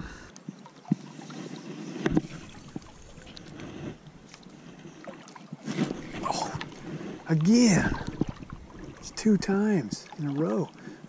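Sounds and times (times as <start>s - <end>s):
water noise around boat: 0.0s - 11.0s.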